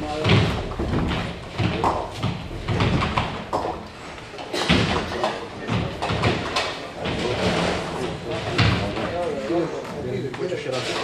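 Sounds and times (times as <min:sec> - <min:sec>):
balls striking pins: 0:00.0 - 0:09.3
bowling balls rolling on lanes: 0:00.0 - 0:09.5.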